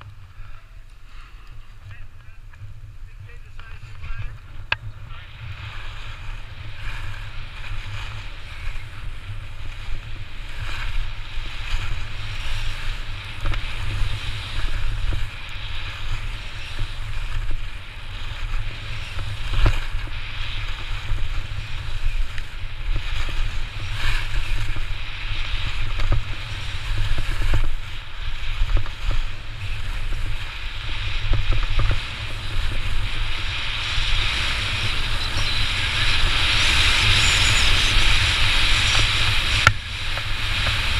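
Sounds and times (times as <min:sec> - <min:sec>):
skis scraping over packed snow: 0:00.0 - 0:40.9
wind buffeting microphone: 0:00.0 - 0:40.9.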